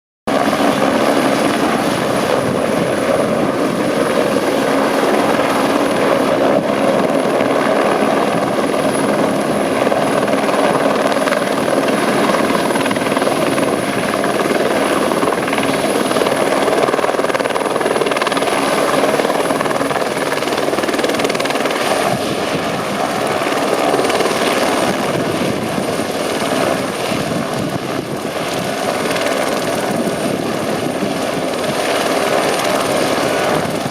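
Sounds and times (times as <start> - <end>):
helicopter turbine whine: 0.3 - 33.9.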